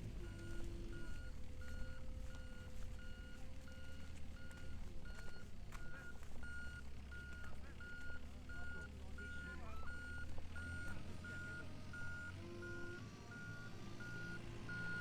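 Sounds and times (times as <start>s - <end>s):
reversing alarm beeping: 0.2s - 15.0s.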